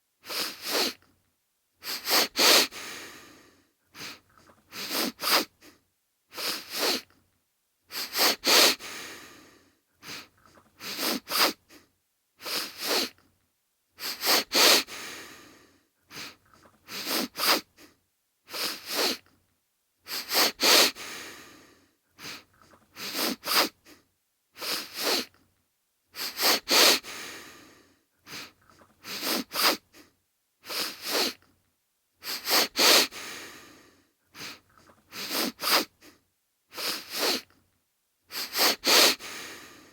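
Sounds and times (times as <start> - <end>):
man sniffling: 0.2 - 1.0, 1.8 - 7.1, 7.9 - 13.2, 14.0 - 19.2, 20.0 - 25.3, 26.1 - 31.4, 32.2 - 37.5, 38.3 - 39.9.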